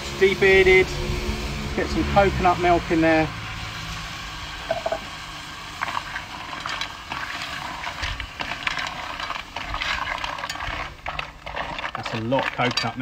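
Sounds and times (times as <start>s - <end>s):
liquid sizzling and bubbling: 0.0s - 13.0s.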